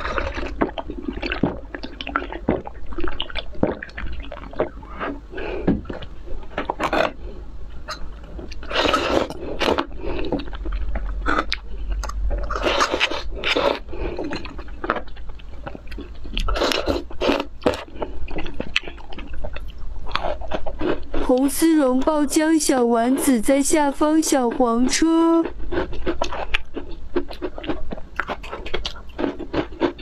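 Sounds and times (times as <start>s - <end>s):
wet chewing: 0.0s - 21.5s, 24.3s - 30.0s.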